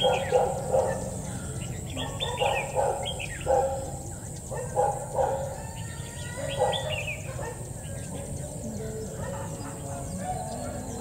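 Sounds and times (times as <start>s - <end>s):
dog barking: 0.0s - 1.3s, 1.9s - 11.0s
bird chirping: 0.0s - 11.0s.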